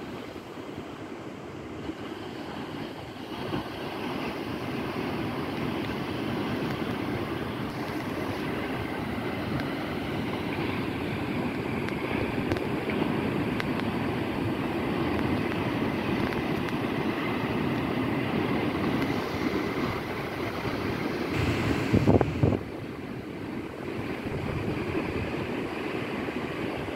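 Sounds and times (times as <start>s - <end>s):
ocean waves breaking: 0.0s - 26.9s
wind buffeting microphone: 2.6s - 26.9s.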